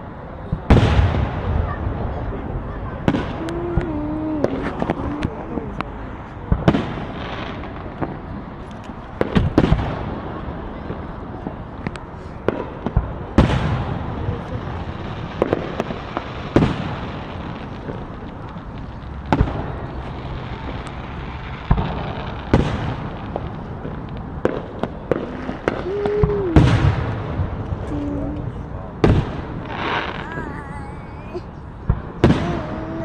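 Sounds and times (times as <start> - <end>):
distant fireworks crackle and rumble: 0.0 - 33.0
loud firework bangs: 0.5 - 30.6, 31.3 - 33.0
small firework pops: 3.0 - 30.3, 31.8 - 32.8.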